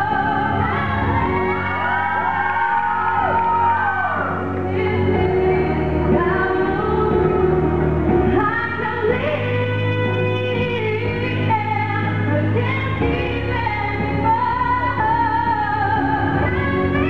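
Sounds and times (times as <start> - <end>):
girls singing a duet: 0.0 - 17.0
musical accompaniment: 0.0 - 17.0.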